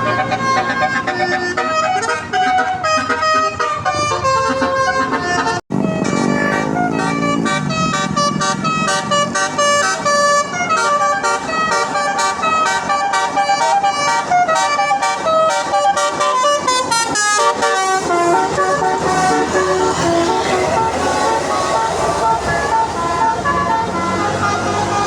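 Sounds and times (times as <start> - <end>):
multi-tone bus horn melody: 0.0 - 25.0.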